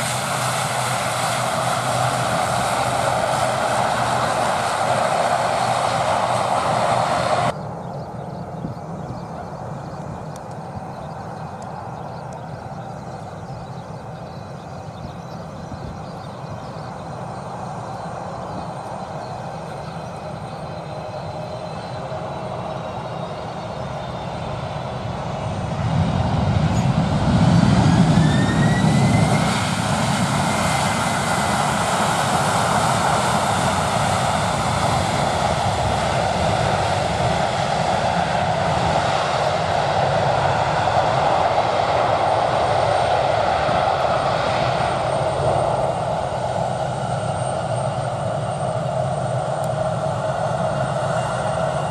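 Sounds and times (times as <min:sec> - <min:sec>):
jet airliner landing: 0:00.0 - 0:51.9
jet engine whine: 0:00.0 - 0:51.9.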